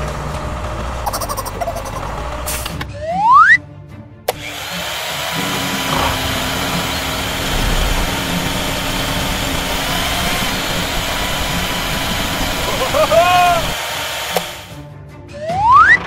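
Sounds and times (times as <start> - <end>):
small motor running: 0.0 - 2.6, 4.3 - 14.8.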